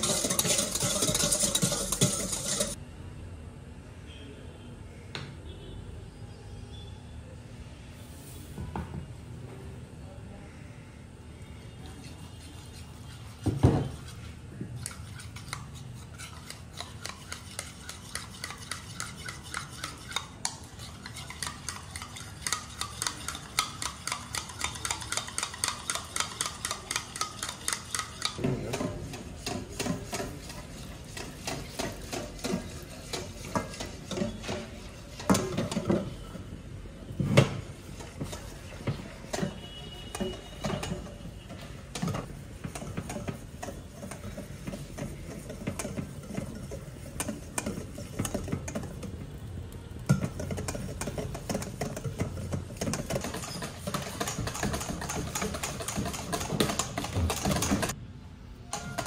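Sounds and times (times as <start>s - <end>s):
utensil stirring against dish: 0.0s - 2.8s, 11.8s - 36.6s, 37.6s - 58.0s.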